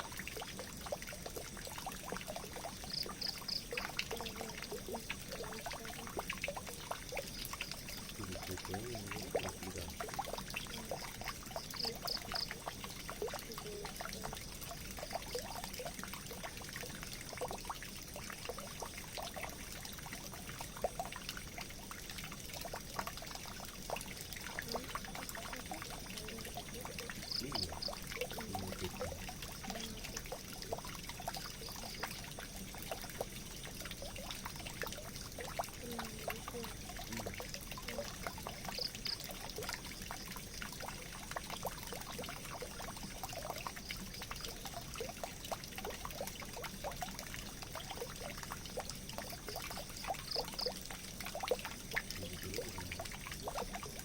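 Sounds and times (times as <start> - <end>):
water drips and splashes: 0.0 - 54.0
water trickling and pouring: 0.0 - 54.0.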